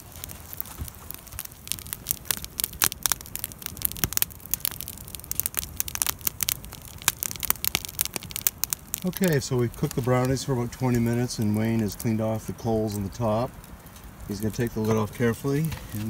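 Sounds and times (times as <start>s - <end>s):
stick fire crackling: 0.0s - 16.0s.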